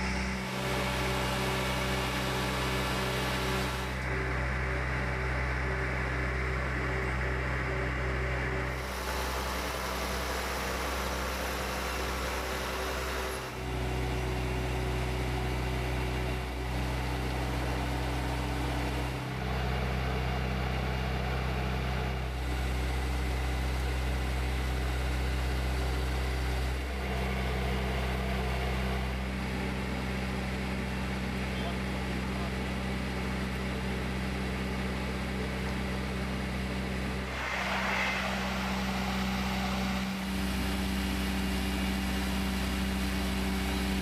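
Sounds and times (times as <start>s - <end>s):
truck engine humming: 0.0s - 44.0s.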